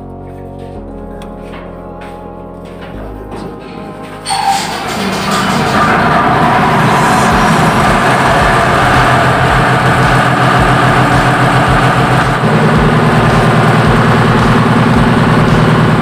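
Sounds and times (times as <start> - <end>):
generator engine drone: 0.0 - 16.0.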